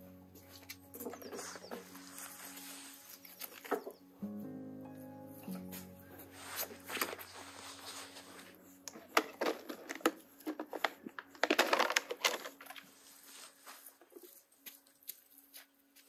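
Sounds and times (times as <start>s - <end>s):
crunching and crackling: 0.3s - 4.1s, 5.5s - 16.0s.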